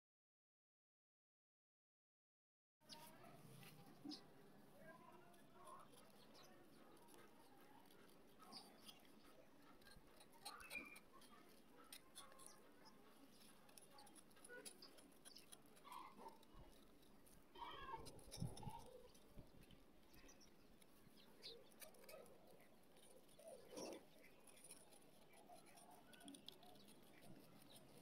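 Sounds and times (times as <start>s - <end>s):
knife scraping dried clay: 2.9s - 28.0s.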